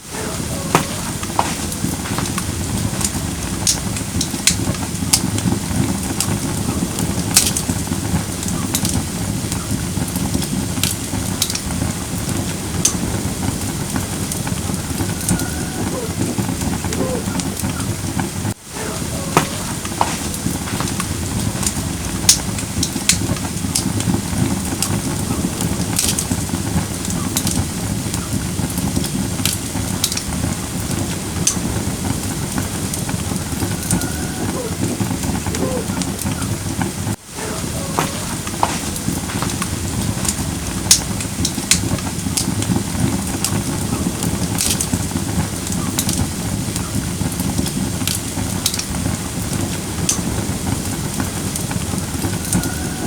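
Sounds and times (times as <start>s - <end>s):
campfire hissing and crackling: 0.0s - 53.0s.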